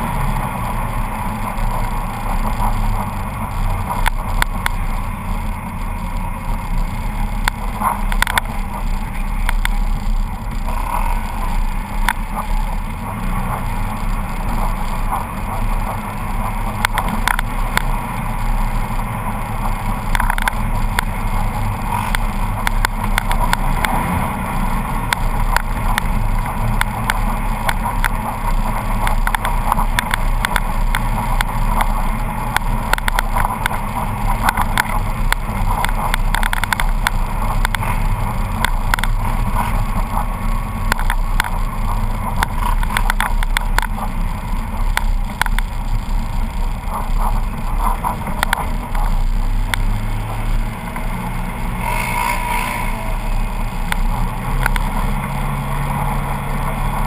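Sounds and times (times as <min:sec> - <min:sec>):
engine running at speed: 0:00.0 - 0:57.0
rushing wind: 0:00.0 - 0:57.0
vehicle clicks and knocks: 0:01.0 - 0:51.2, 0:53.8 - 0:57.0.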